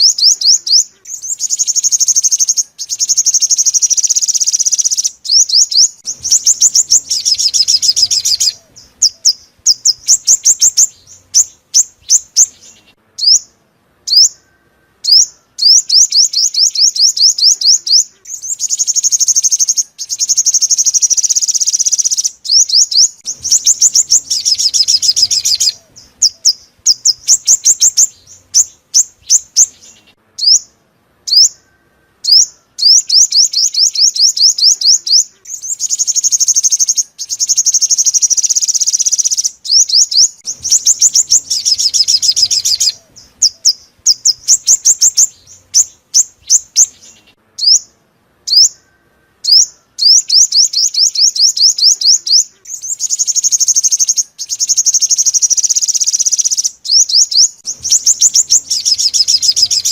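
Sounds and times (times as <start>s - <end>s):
bird trilling chirps: 0.0s - 59.9s.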